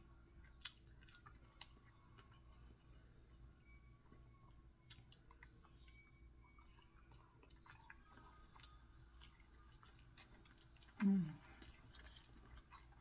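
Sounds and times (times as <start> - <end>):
chewing crispy fried chicken: 0.0 - 13.0
low steady hum: 0.0 - 13.0.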